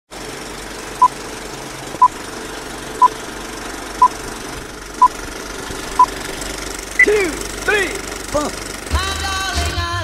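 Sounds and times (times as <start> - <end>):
film projector whirring: 0.1 - 9.8.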